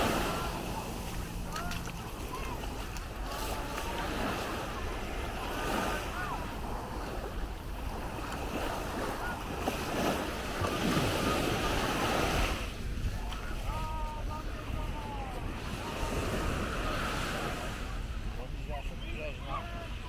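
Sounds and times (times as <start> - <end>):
distant voices: 0.0 - 20.0
waves breaking on shore: 0.0 - 20.0
wind on microphone: 0.0 - 20.0.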